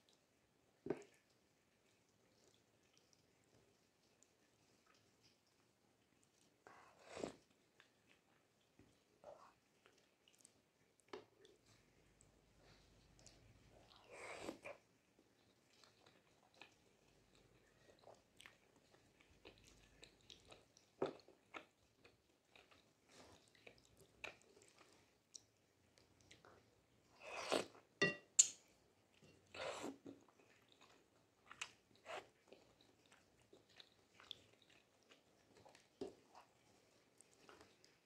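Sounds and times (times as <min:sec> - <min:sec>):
soft chewing: 0:00.0 - 0:38.0.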